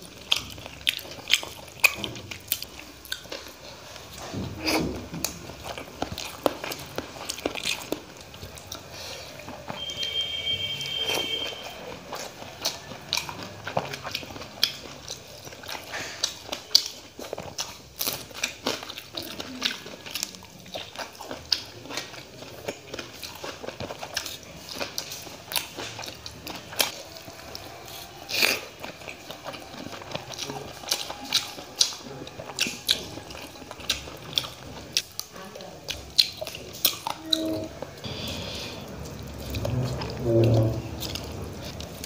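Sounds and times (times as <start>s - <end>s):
wet chewing and mouth smacking: 0.0s - 42.0s.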